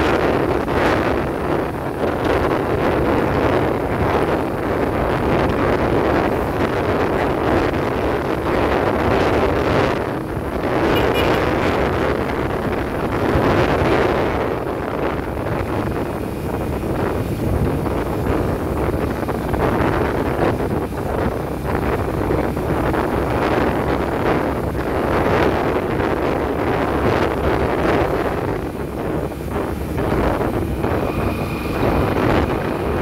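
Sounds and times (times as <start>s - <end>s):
road noise: 0.0s - 33.0s
wind rushing over microphone: 0.0s - 33.0s.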